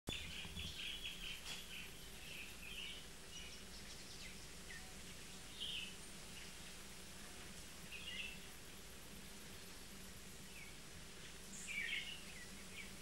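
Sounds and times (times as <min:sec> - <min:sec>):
birds twittering: 0:00.1 - 0:07.0, 0:07.8 - 0:13.0
steady low hum and hiss: 0:00.1 - 0:13.0.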